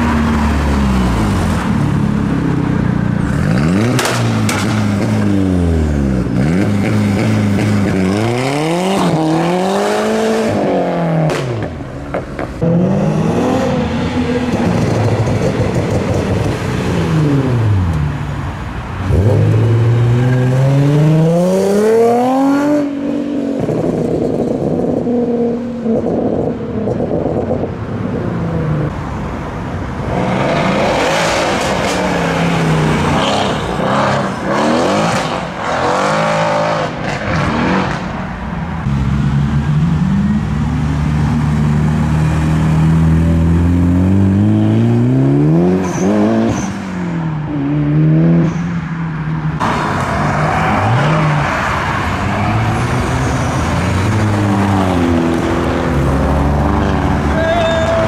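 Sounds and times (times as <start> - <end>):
cars accelerating hard: 3.2 - 18.0, 19.0 - 27.7, 30.0 - 38.2, 38.8 - 48.9, 49.5 - 58.0.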